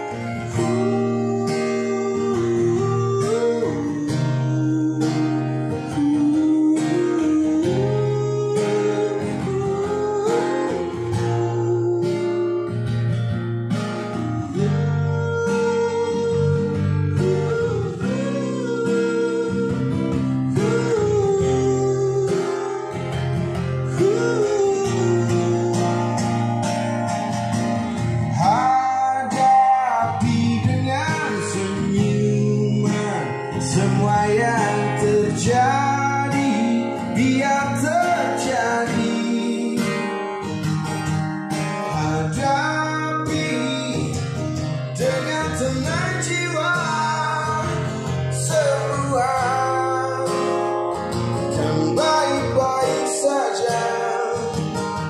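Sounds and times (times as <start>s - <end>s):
pop song with guitar on speakers: 0.0s - 55.0s.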